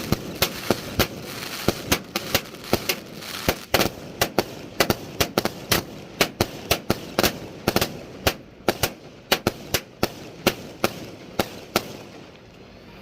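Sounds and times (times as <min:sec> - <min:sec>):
fireworks sharp reports: 0:00.0 - 0:12.3
fireworks crackle: 0:00.0 - 0:13.0.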